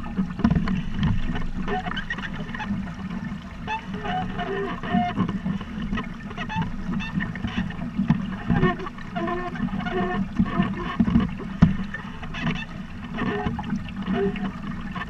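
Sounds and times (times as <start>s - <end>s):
water splashing against hull: 0.0s - 15.0s.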